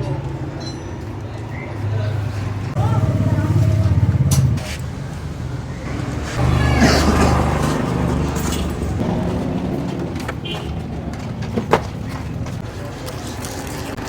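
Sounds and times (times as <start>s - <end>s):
vehicle engine running: 1.8s - 14.0s.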